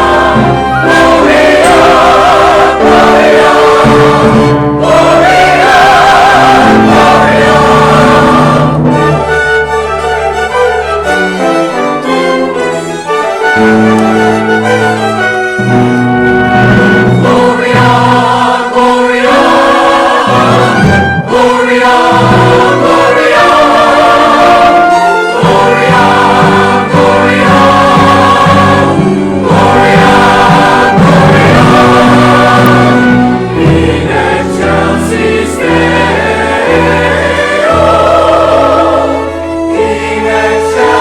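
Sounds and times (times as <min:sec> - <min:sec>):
choir singing: 0:00.0 - 0:41.0
orchestra playing: 0:00.0 - 0:41.0.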